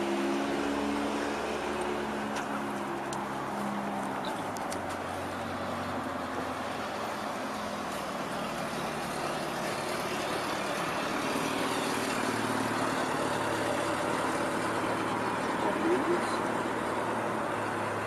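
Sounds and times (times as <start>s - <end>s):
low engine hum: 0.0s - 18.0s
road noise hiss: 0.0s - 18.0s.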